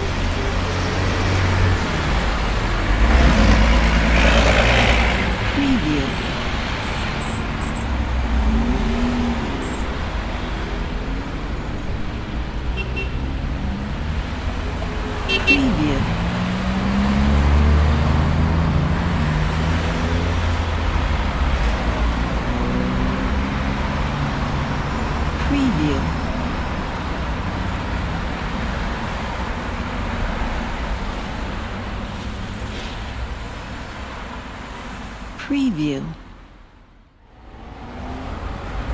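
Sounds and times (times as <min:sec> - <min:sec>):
passing cars rumbling: 0:00.0 - 0:35.4, 0:36.2 - 0:38.9.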